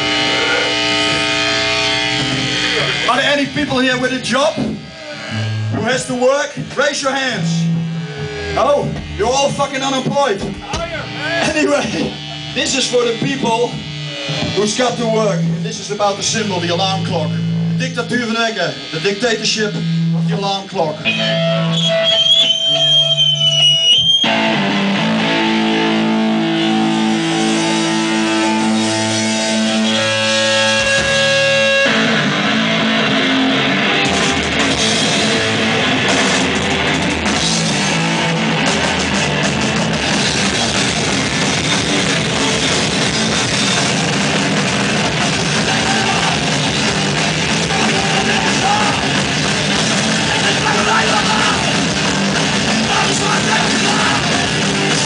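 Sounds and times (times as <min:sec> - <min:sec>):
electric guitar held chords: 0:00.0 - 0:55.0
punk band playing live: 0:00.0 - 0:55.0.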